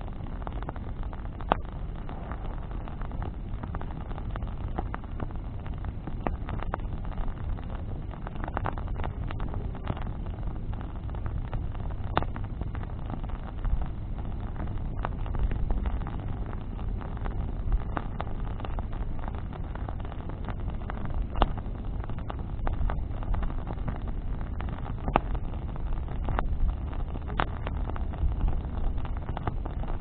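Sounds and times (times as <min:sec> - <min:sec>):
bonfire crackling: 0:00.0 - 0:30.0
fire popping: 0:00.0 - 0:30.0
low rumble: 0:00.0 - 0:30.0.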